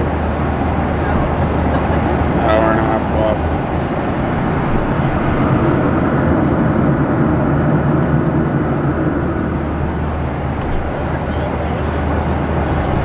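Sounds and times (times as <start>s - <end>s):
air rushing in airliner cabin: 0.0s - 13.0s
low engine hum: 0.0s - 13.0s.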